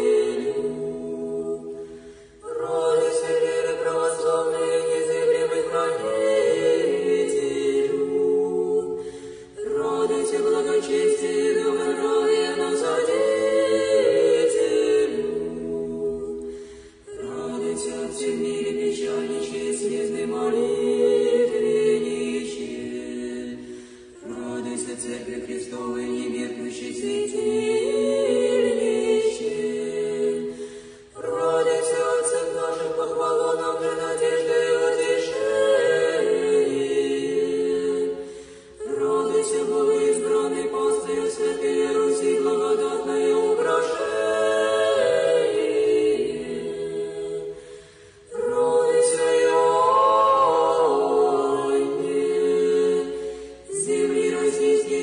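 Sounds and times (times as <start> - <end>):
church choir singing a cappella: 0.0 - 55.0.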